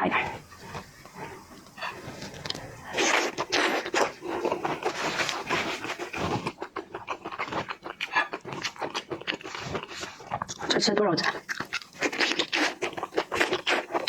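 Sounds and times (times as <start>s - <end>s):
crunchy food chewing: 0.0s - 14.0s.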